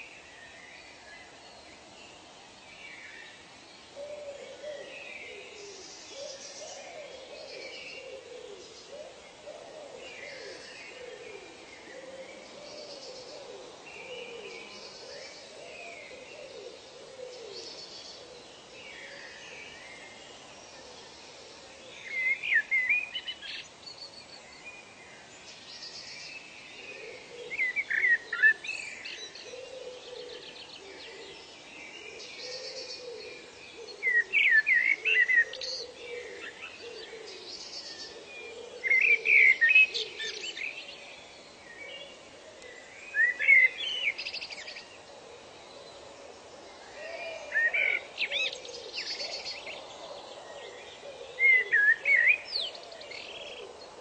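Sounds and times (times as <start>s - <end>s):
songbird singing phrase: 0.0s - 54.0s.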